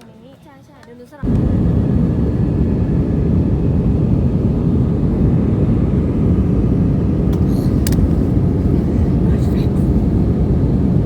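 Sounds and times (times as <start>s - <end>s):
airliner cabin rumble: 1.2s - 11.0s.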